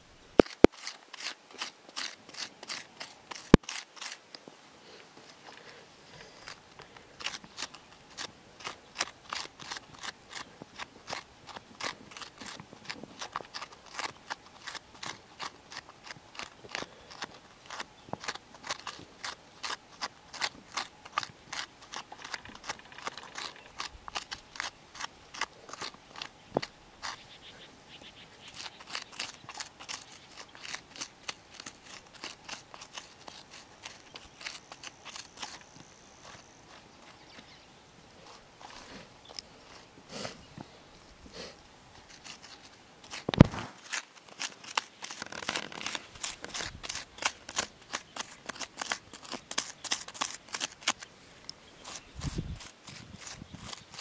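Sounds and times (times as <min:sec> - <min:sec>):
hand tool digging stony soil: 0:00.4 - 0:04.4, 0:05.2 - 0:40.6, 0:41.2 - 0:54.0.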